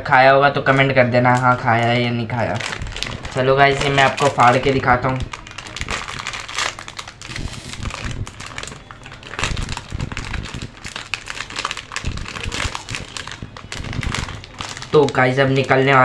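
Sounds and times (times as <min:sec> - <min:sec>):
plastic wrapper crinkling: 0:00.5 - 0:16.0.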